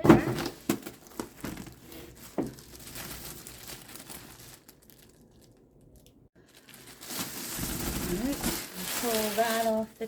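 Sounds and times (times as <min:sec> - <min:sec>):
cardboard and plastic rustling: 0:00.0 - 0:05.6, 0:06.4 - 0:10.0.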